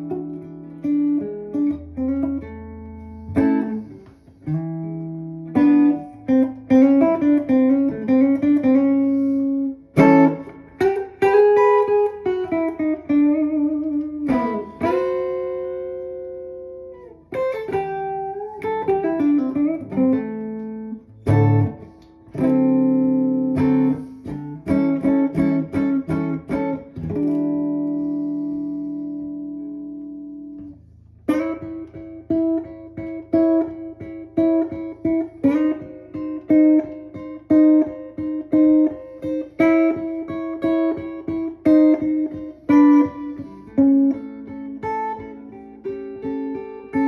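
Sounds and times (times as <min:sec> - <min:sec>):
electric guitar playing blues: 0:00.0 - 0:47.0.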